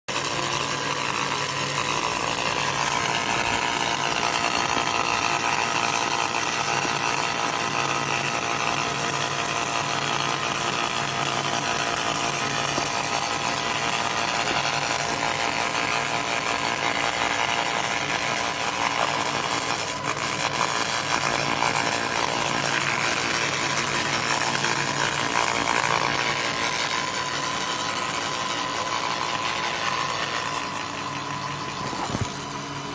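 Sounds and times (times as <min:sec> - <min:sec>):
laser cleaning machine buzzing hiss: 0:00.1 - 0:32.9.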